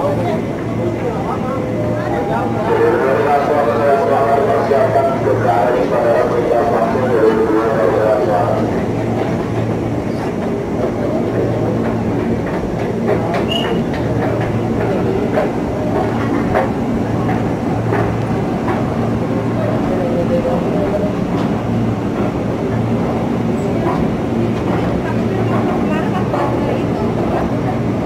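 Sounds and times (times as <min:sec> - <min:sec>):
machinery hum and rumble: 0:00.0 - 0:28.0.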